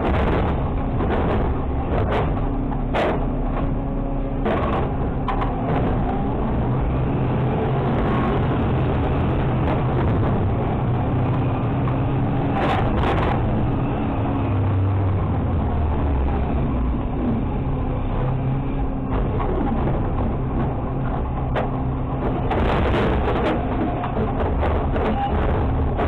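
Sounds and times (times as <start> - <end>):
truck diesel engine and hydraulics: 0.0 - 26.0.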